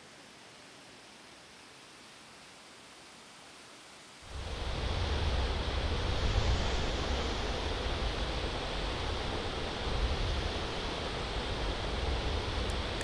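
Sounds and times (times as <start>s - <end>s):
fountain water rushing: 0.0s - 13.0s.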